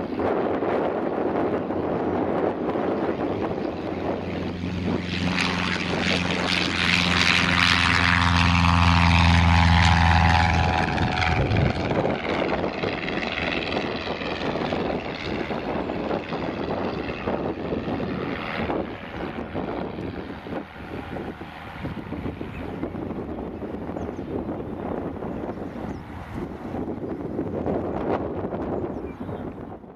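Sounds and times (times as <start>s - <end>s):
light aircraft engine drone: 0.0s - 29.9s.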